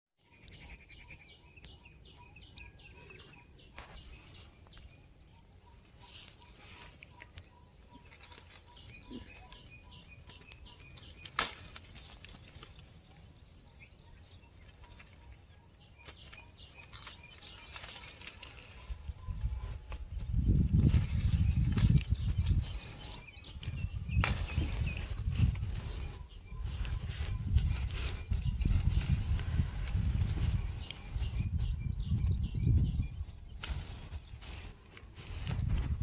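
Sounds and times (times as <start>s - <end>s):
leaves rustling: 5.8s - 13.7s, 14.4s - 36.0s.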